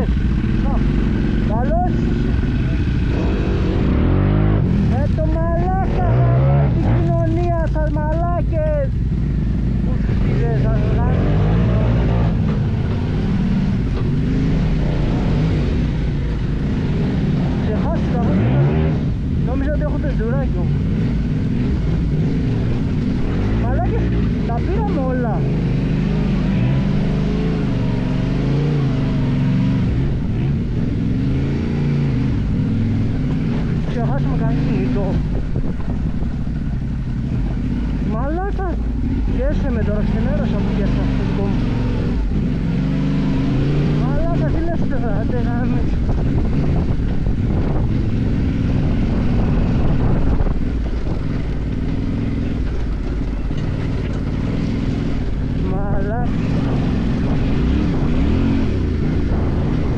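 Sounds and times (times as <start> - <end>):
motorcycle engine riding off-road: 0.0 - 59.9.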